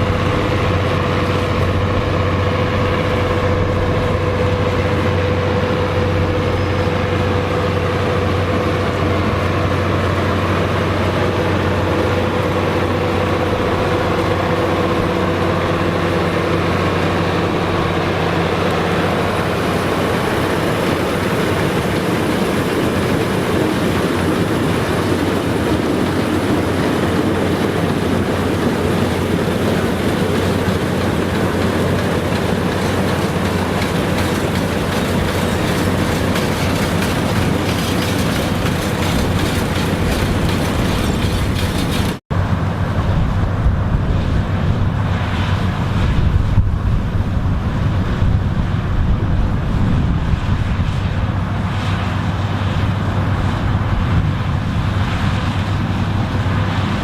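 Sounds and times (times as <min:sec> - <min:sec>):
farm machinery engine droning: 0:00.0 - 0:57.0.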